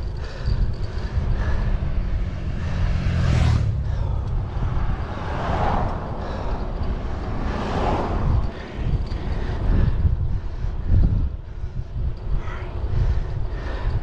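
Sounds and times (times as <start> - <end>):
road traffic passing: 0.0 - 14.0
wind and road noise rumble: 0.0 - 14.0.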